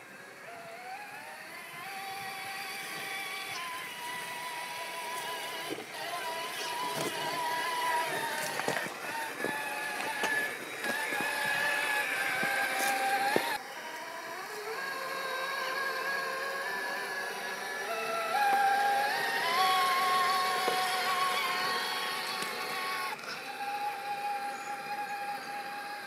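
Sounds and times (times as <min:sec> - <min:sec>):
toy car electric motor whining: 0:00.0 - 0:26.0.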